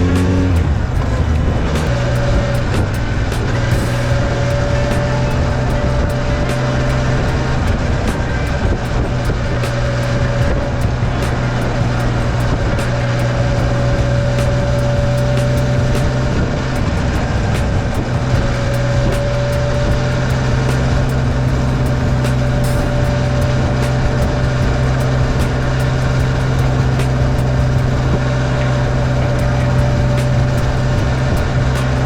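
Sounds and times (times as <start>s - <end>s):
two-stroke motorcycle engine running: 0.0s - 32.0s.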